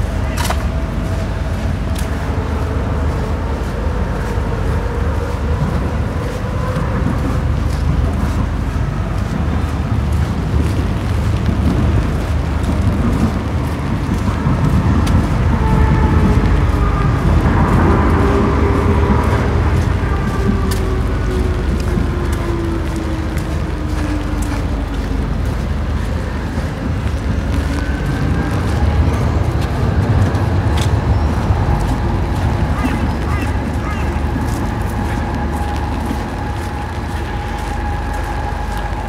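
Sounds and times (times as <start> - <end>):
low rumble of road traffic: 0.0 - 39.0.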